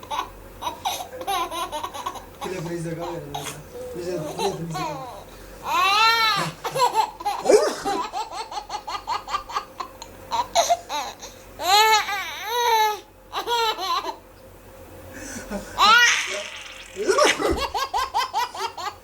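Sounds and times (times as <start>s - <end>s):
baby laughing: 0.0s - 3.6s, 4.2s - 14.2s, 15.8s - 19.0s.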